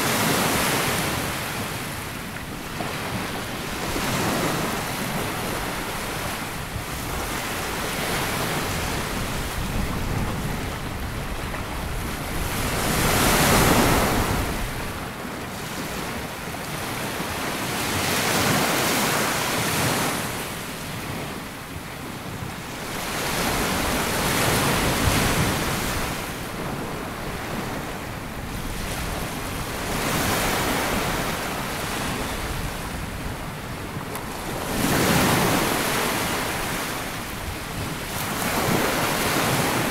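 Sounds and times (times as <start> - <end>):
sea waves breaking on sandy beach: 0.0 - 39.9.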